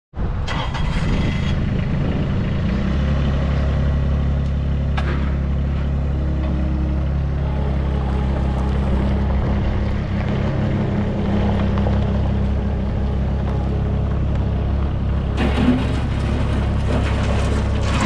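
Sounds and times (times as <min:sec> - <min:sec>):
diesel engine running: 0:00.2 - 0:18.0.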